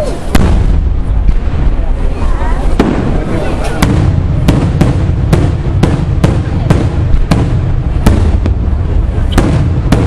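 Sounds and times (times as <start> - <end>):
fireworks bursting with sharp bangs: 0.0 - 10.0
low rumble of detonations: 0.0 - 10.0.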